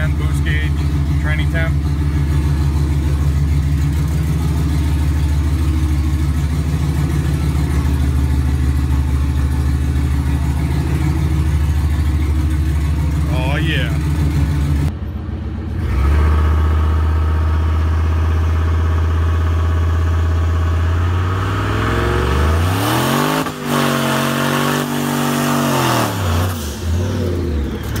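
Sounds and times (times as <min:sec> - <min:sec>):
truck engine revving: 0:00.0 - 0:15.0, 0:15.6 - 0:28.0.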